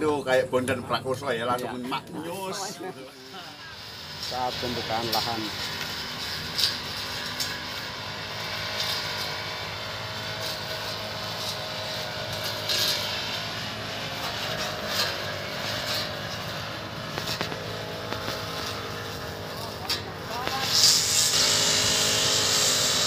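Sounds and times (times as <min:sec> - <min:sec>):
brush cutter engine running: 0:03.0 - 0:23.0.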